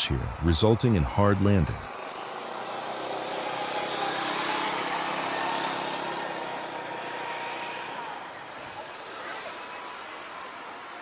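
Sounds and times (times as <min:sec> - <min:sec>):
jet engines rushing with whine: 0:01.9 - 0:11.0.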